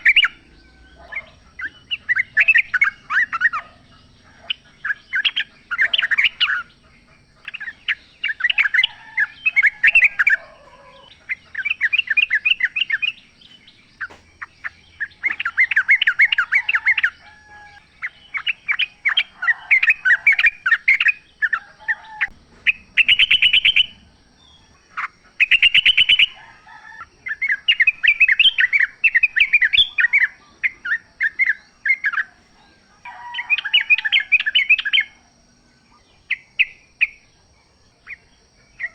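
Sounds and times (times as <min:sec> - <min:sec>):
bird singing rapid chirps: 0:00.0 - 0:26.5, 0:27.1 - 0:38.9.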